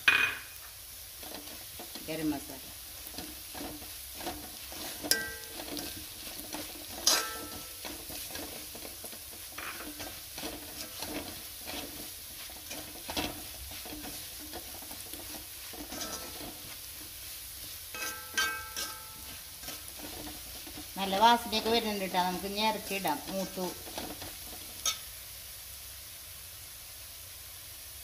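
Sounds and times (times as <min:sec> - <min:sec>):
spoon clanking against pan: 0:00.0 - 0:02.0, 0:03.0 - 0:25.1
oil sizzling: 0:00.0 - 0:28.0
spoon scraping in pan: 0:00.1 - 0:25.1.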